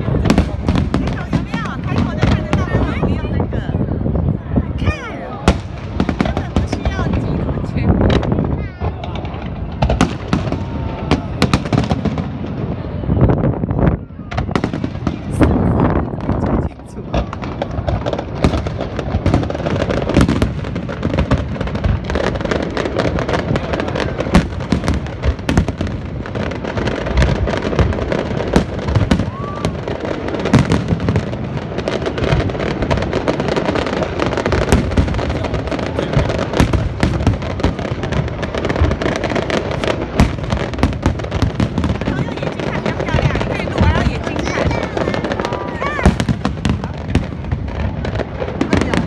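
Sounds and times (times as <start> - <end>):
fireworks crackling and banging: 0.0 - 49.0.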